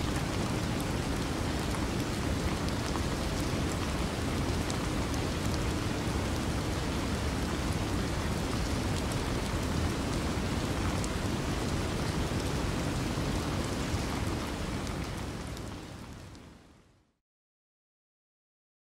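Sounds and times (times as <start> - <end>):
rain-like noise: 0.0 - 17.2.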